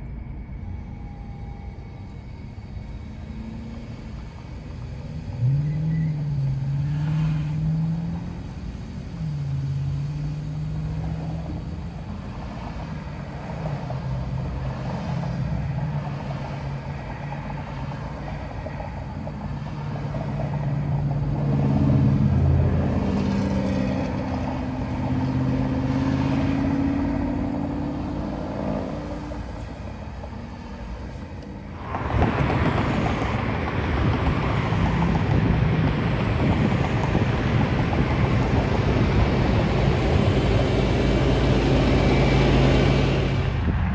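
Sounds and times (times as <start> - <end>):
vehicle engines idling: 0.0 - 43.9
wind and road noise: 0.0 - 43.9.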